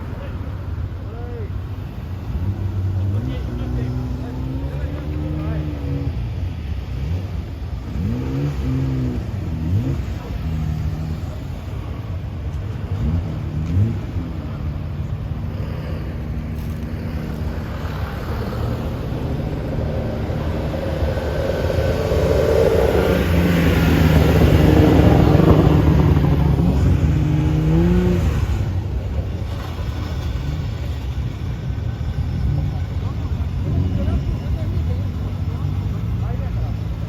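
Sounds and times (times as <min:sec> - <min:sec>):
car engines revving: 0:00.0 - 0:37.0
car passing close: 0:00.0 - 0:37.0.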